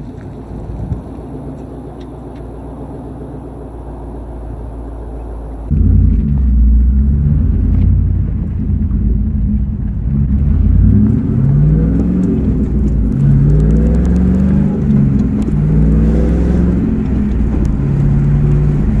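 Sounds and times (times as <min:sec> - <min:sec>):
car engine rumble accelerating: 0:00.0 - 0:19.0.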